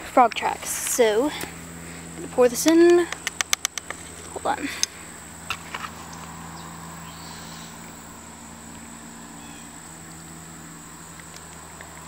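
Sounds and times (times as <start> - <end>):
low continuous hum: 0.0 - 12.0
high-pitched insect drone: 0.8 - 12.0.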